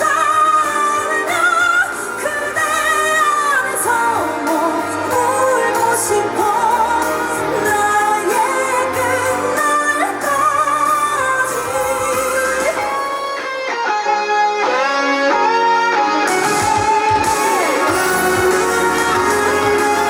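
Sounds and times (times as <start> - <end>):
woman singing pop ballad: 0.0 - 13.6, 17.0 - 20.0
instrumental accompaniment with bass: 0.0 - 20.0.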